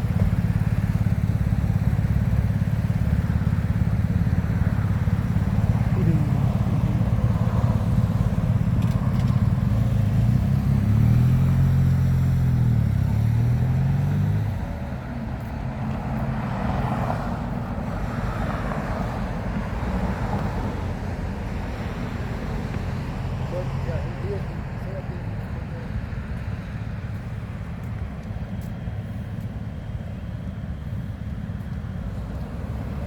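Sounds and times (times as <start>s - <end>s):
traffic noise: 0.0s - 33.0s
vehicle engine running: 0.0s - 33.0s.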